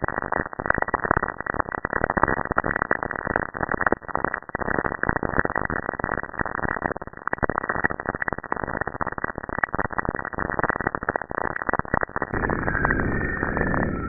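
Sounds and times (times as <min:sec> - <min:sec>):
crackling hiss with clicks and pops: 0:00.0 - 0:14.0.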